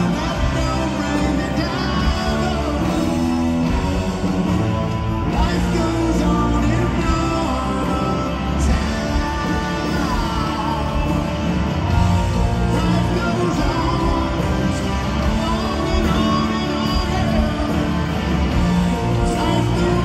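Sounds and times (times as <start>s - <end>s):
bass guitar: 0.0s - 20.0s
drums: 0.0s - 20.0s
electric guitars: 0.0s - 20.0s.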